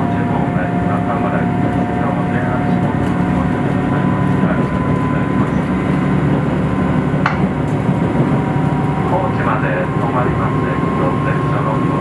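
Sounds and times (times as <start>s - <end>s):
train engine drone: 0.0s - 12.0s.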